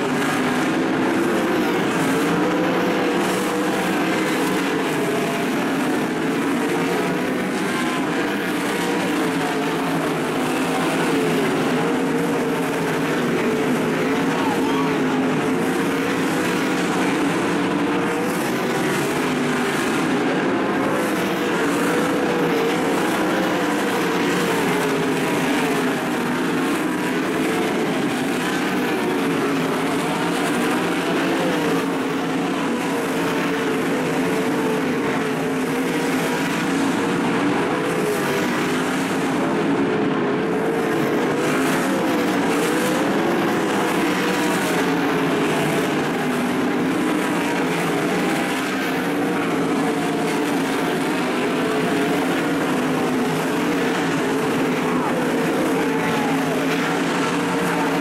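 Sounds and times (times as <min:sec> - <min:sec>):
race car engines roaring: 0:00.0 - 0:58.0.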